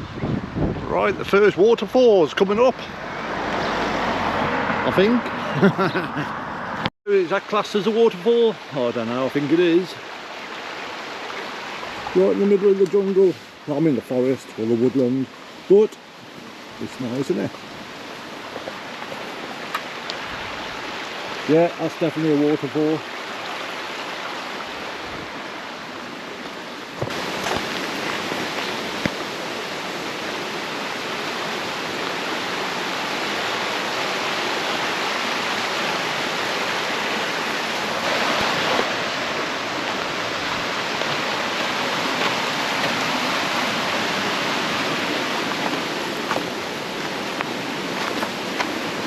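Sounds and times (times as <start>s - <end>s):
waterfall roaring: 0.9s - 49.0s.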